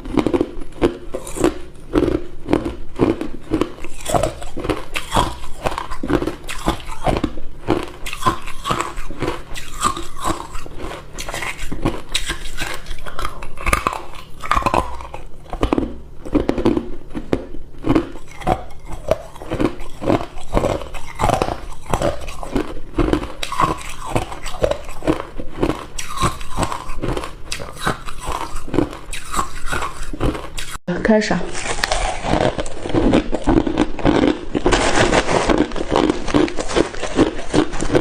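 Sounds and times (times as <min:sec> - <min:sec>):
chewing ice cubes: 0:00.0 - 0:30.8, 0:31.5 - 0:38.0.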